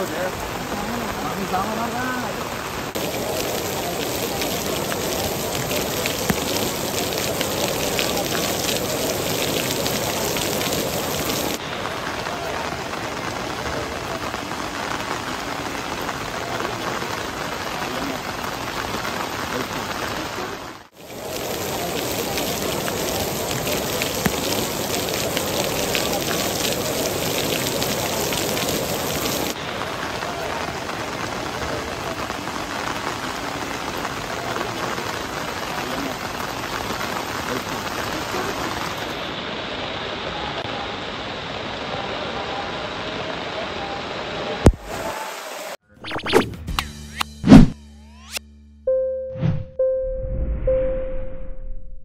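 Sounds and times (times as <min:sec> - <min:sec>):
heavy rain on stone paving: 0:00.0 - 0:45.8.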